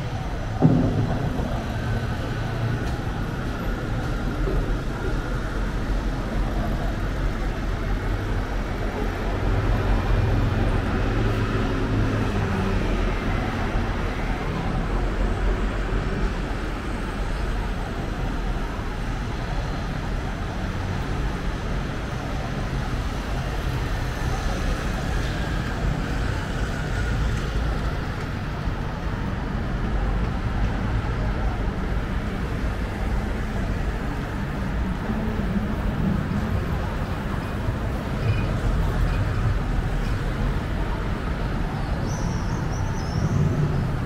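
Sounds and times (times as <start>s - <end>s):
city traffic rumble: 0.0s - 44.0s.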